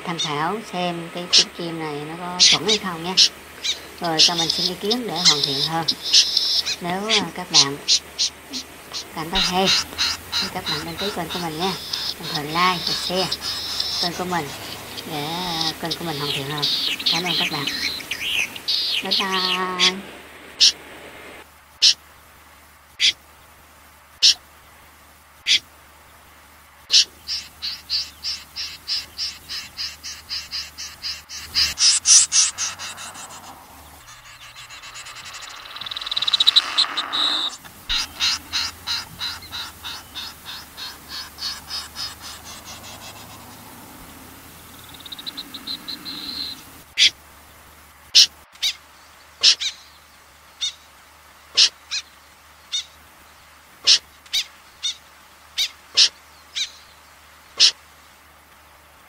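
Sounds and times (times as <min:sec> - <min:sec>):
snipe calls: 0:00.0 - 0:20.9, 0:21.8 - 0:22.0, 0:23.0 - 0:23.2, 0:24.2 - 0:24.4, 0:25.4 - 0:25.7, 0:26.9 - 0:47.2, 0:48.1 - 0:48.8, 0:49.4 - 0:49.9, 0:50.6 - 0:50.8, 0:51.5 - 0:52.1, 0:52.7 - 0:53.0, 0:53.8 - 0:56.9, 0:57.5 - 0:57.8.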